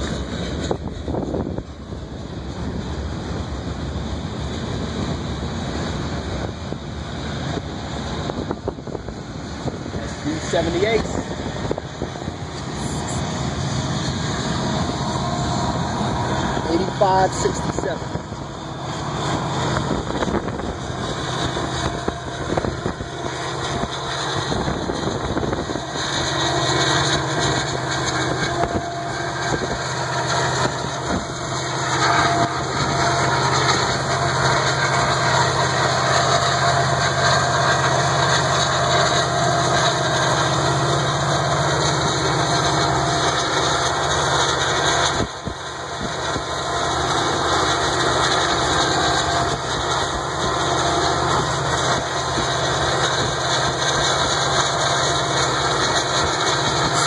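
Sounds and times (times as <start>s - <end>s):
low diesel engine drone: 0.0s - 57.0s
rumble of moving train: 0.0s - 57.0s.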